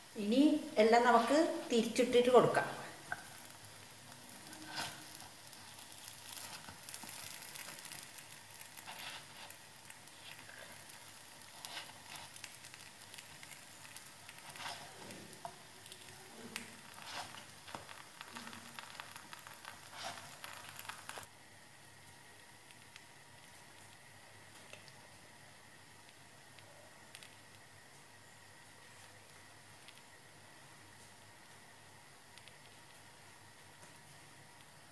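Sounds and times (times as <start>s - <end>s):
batter sizzling in oil: 0.0s - 34.9s.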